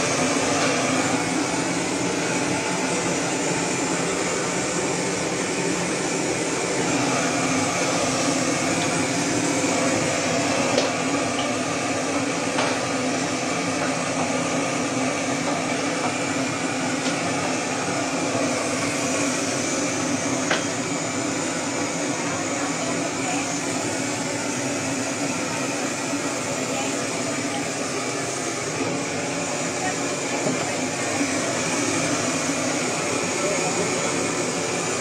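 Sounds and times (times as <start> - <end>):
gas blowtorch hissing: 0.0 - 35.0.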